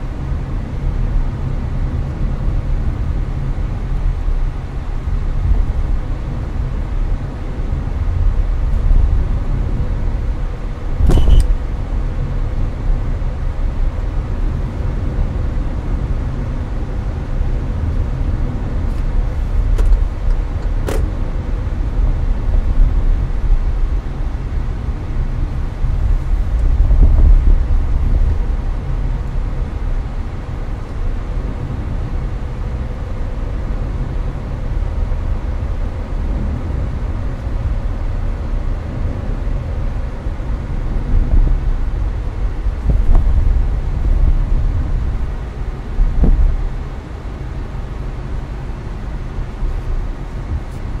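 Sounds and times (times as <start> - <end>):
air-conditioner fan hiss: 0.0 - 51.0
road and tyre rumble: 0.0 - 51.0.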